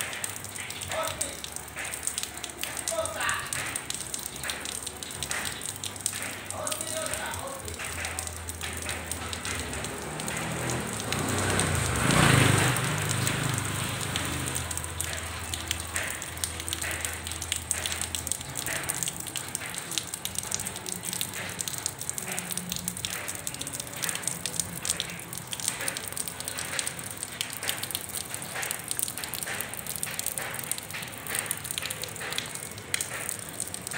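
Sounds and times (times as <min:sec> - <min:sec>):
rain on wet ground: 0:00.0 - 0:33.9.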